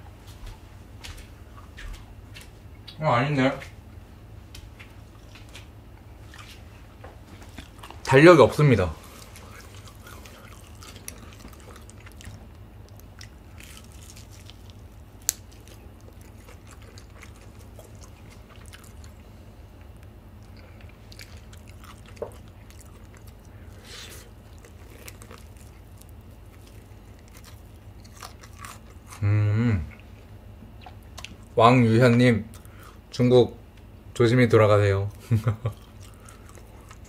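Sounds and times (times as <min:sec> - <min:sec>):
steady low hum: 0:00.0 - 0:37.0
chewing crunchy chicken: 0:05.1 - 0:33.2, 0:35.1 - 0:37.0.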